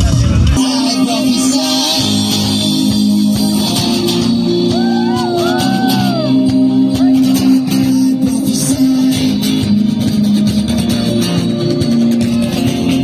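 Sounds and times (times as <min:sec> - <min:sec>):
guitar background music: 0:00.6 - 0:13.0.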